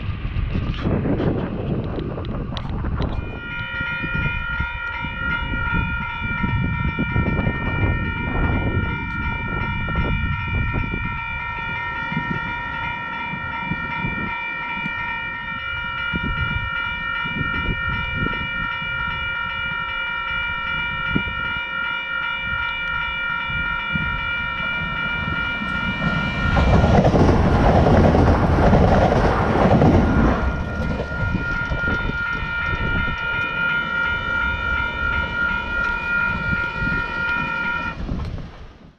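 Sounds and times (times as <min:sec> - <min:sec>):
electric train passing: 0:00.0 - 0:38.9
level crossing bells ringing: 0:03.2 - 0:38.0.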